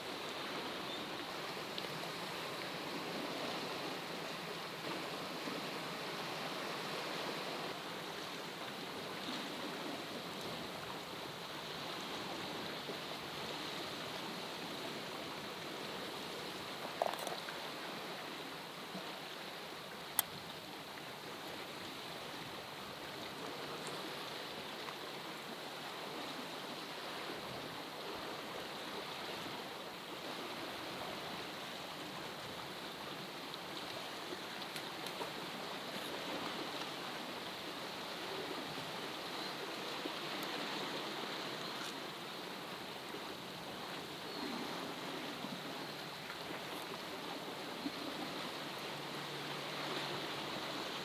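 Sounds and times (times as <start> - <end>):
rushing water-like noise: 0.0 - 51.0.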